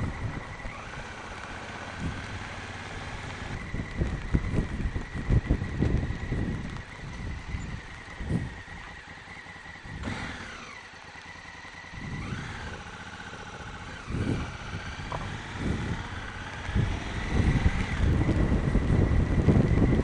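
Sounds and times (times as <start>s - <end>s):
wind rumble on microphone: 0.0s - 10.8s, 11.8s - 13.0s, 13.6s - 20.0s
motorcycle engine accelerating: 0.0s - 20.0s.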